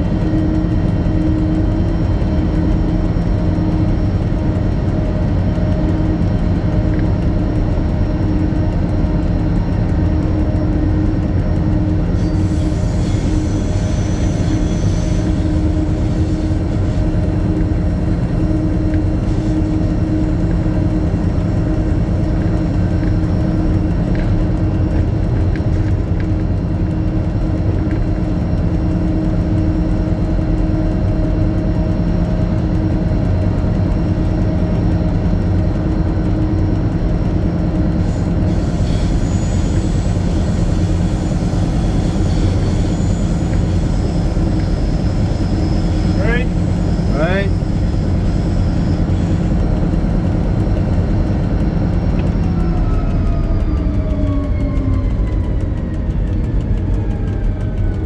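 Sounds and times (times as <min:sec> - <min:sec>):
diesel locomotive engine humming: 0:00.0 - 0:58.0.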